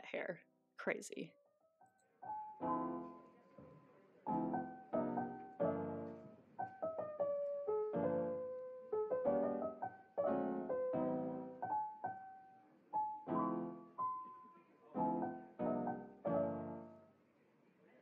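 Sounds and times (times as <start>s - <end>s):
gentle piano melody: 1.8s - 17.2s.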